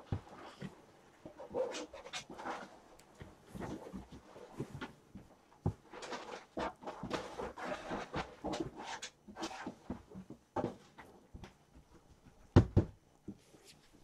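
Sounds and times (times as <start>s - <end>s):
rustling and scraping handling noise: 0.0s - 12.5s, 13.1s - 14.0s.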